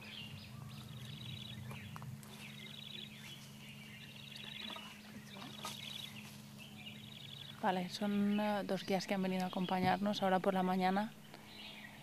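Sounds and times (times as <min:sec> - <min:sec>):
bird trilling: 0:00.0 - 0:09.8
faint low hum: 0:00.0 - 0:12.0.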